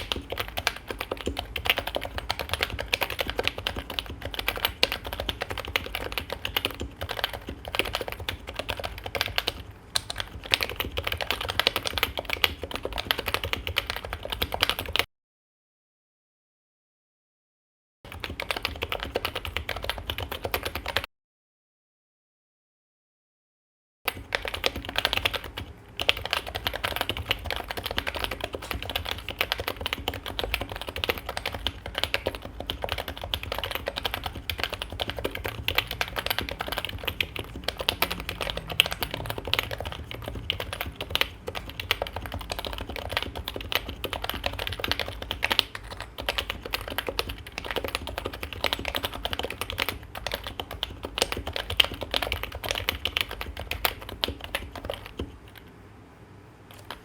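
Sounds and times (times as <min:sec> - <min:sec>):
keyboard typing: 0:00.0 - 0:15.1, 0:18.1 - 0:21.1, 0:24.1 - 0:55.7, 0:56.7 - 0:57.0.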